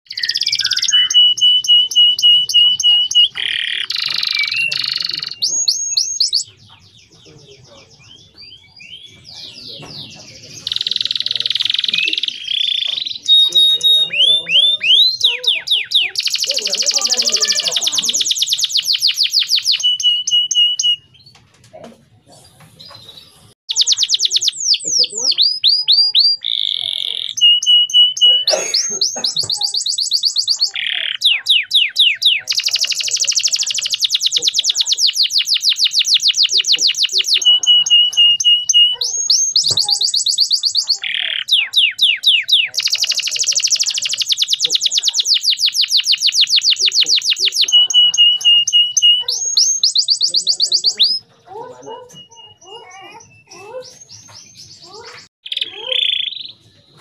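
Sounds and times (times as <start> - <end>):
canary singing trills: 0.1 - 57.0.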